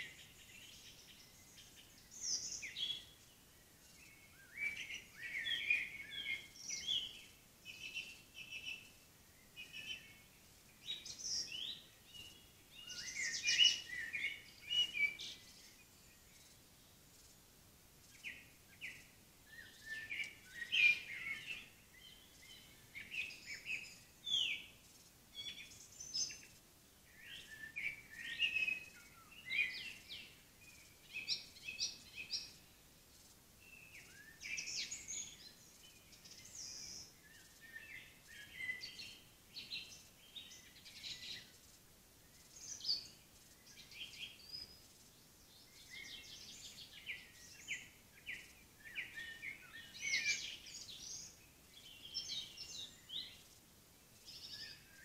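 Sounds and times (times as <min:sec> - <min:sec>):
faint steady hiss: 0:00.0 - 0:55.0
songbirds singing: 0:00.0 - 0:55.0.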